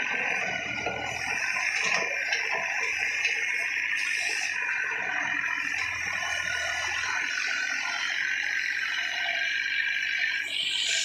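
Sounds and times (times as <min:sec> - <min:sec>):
excavator engine and hydraulics: 0:00.0 - 0:11.0.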